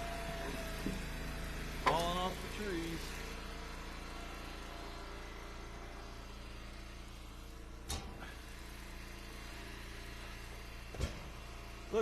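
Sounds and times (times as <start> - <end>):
log splitter engine running: 0.0 - 12.0.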